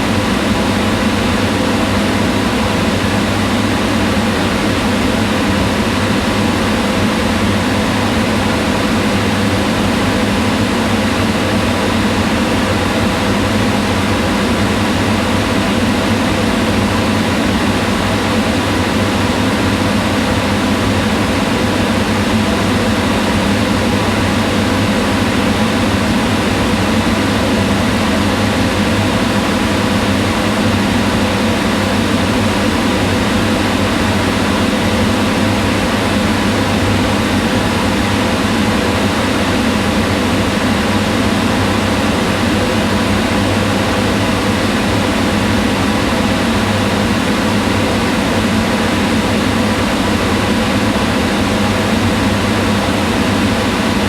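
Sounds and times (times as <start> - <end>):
range hood fan whirring: 0.0 - 54.0.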